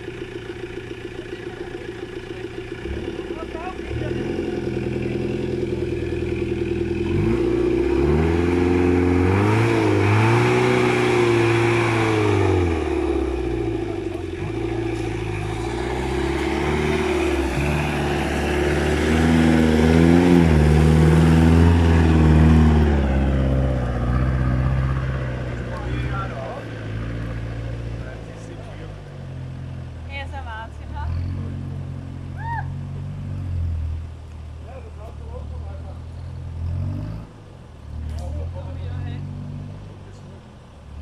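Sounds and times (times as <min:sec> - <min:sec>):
jeep engine revving: 0:00.0 - 0:41.0.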